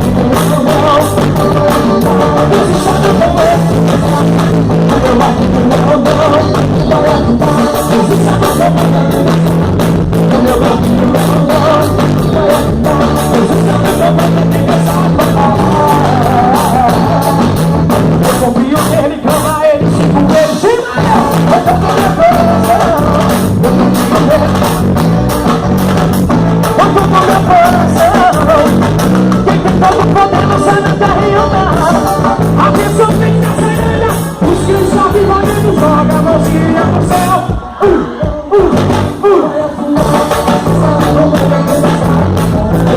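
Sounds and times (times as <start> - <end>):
person singing: 0.0 - 25.2, 26.6 - 42.9
band playing: 0.0 - 42.9
bass and drum beat: 0.0 - 42.9.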